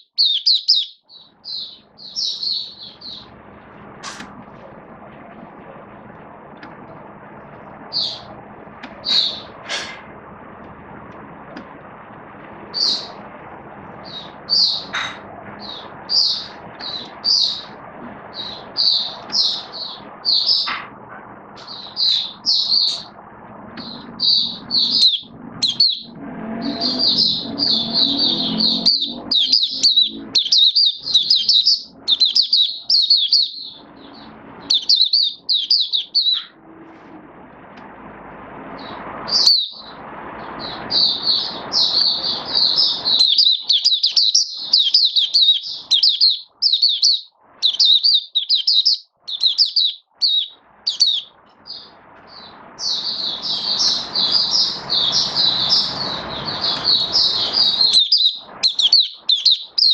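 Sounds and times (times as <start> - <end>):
bird chirping and twittering: 0.0 - 4.7, 6.5 - 10.1, 12.6 - 37.0, 38.6 - 59.9.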